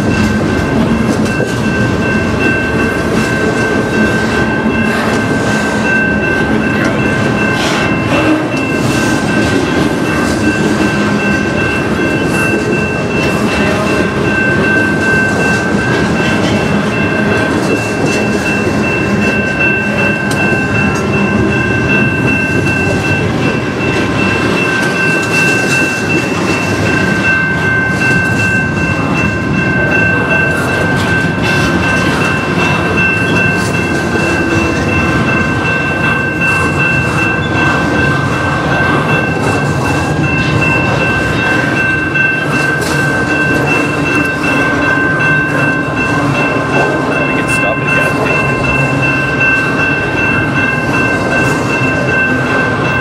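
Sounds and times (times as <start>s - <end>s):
level crossing bell ringing: 0.0s - 53.0s
train wheels rumbling on rails: 0.0s - 53.0s.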